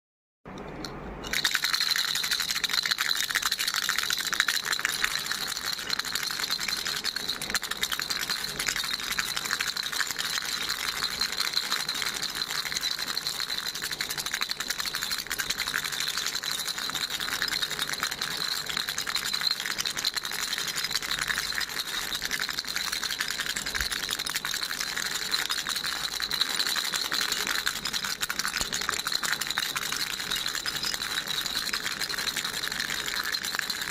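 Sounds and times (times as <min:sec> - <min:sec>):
baby rattle shaken: 0:00.6 - 0:33.9.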